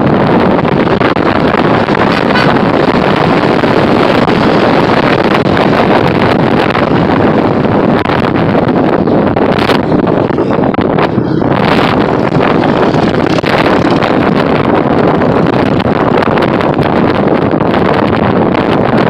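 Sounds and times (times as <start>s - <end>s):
motorbike road noise: 0.0s - 19.0s
wind buffeting microphone: 0.0s - 19.0s.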